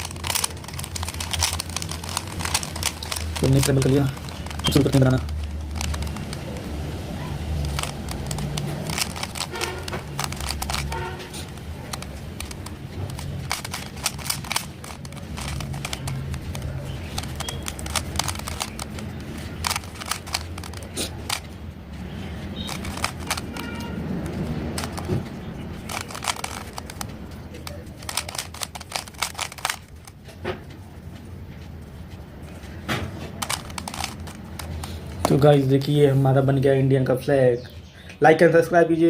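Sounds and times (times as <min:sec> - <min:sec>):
puzzle cube layers clicking: 0:00.0 - 0:21.6, 0:22.4 - 0:30.2, 0:33.3 - 0:35.6.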